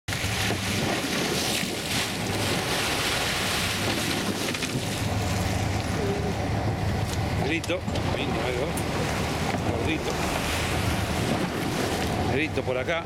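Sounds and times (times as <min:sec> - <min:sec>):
boat motor humming: 0:00.1 - 0:13.0
sea water splashing: 0:00.1 - 0:13.0
wind on microphone: 0:00.2 - 0:12.5.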